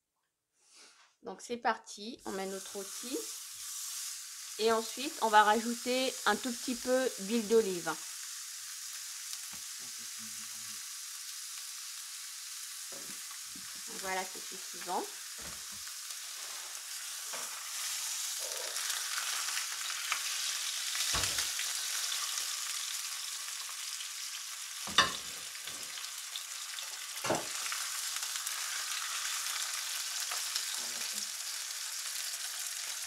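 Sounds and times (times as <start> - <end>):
meat sizzling in a frying pan: 2.3 - 33.0.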